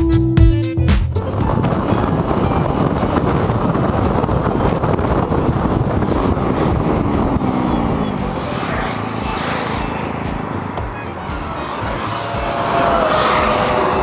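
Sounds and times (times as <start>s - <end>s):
road noise: 0.7s - 14.0s
scooter engine: 1.2s - 14.0s
wind rush over microphone: 1.2s - 14.0s.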